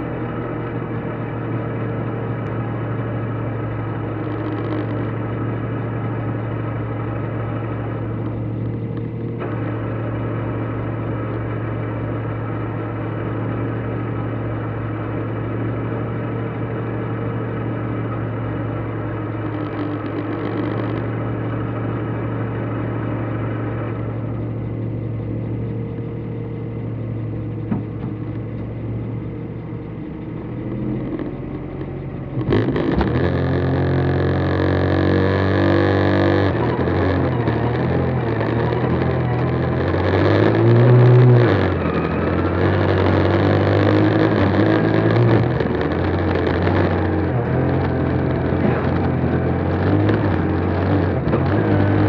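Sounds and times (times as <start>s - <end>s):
car engine idling and revving: 0.0s - 52.0s.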